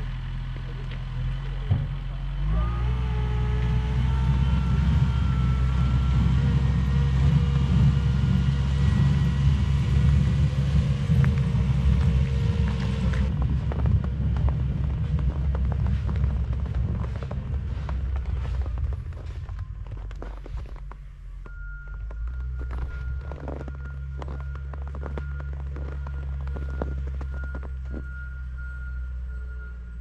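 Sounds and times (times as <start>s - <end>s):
diesel engine rumble: 0.0s - 30.0s.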